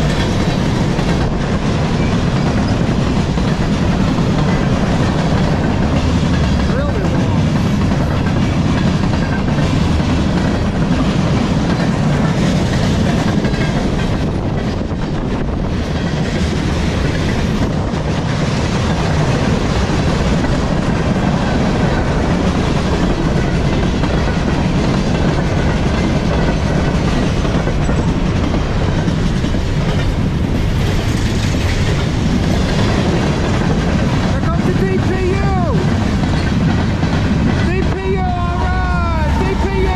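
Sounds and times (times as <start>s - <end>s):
steel train wheels on rails: 0.0s - 39.9s.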